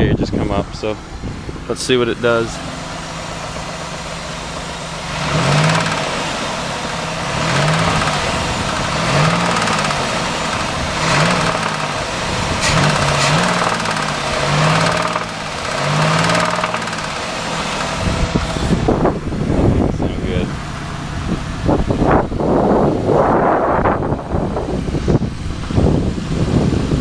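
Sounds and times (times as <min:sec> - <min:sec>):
car engine revving from idle: 0:00.6 - 0:27.0.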